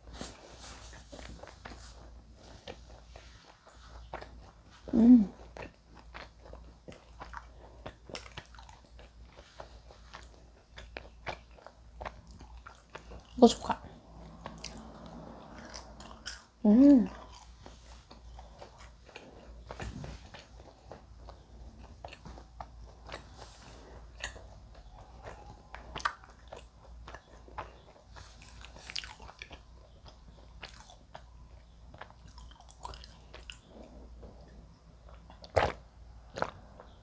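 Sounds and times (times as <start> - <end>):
chewing and mouth sounds: 0.2 - 37.0.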